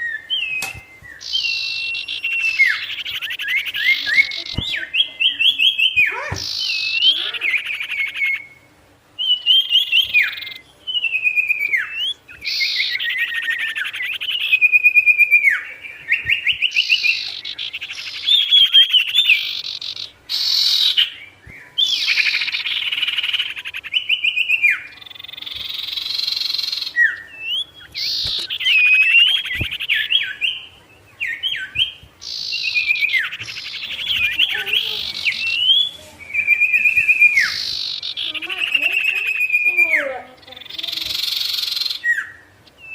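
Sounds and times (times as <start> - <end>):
songbird singing trills and whistles: 0.0 - 42.9.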